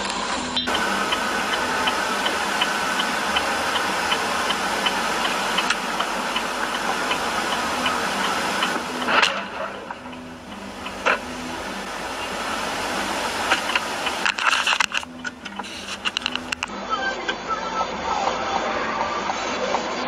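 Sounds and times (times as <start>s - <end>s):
car indicator ticking: 0.0s - 16.7s
road and engine noise: 0.0s - 20.0s
sudden loud noise: 0.0s - 20.0s.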